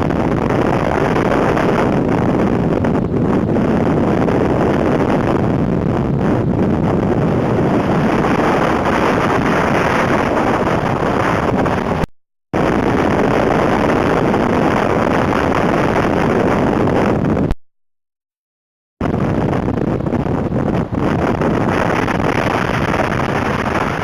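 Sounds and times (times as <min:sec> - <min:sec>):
blizzard wind buffeting microphone: 0:00.0 - 0:17.6, 0:19.0 - 0:24.0.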